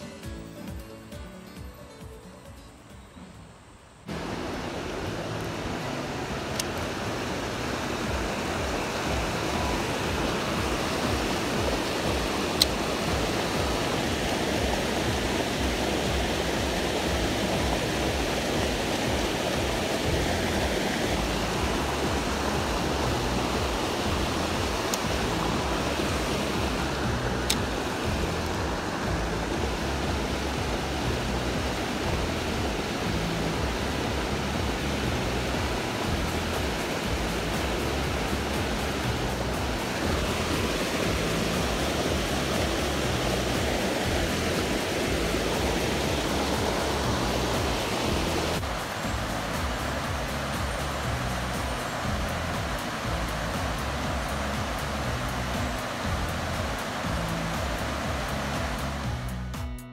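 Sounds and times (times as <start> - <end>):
river water rushing over rapids: 4.0 - 59.6.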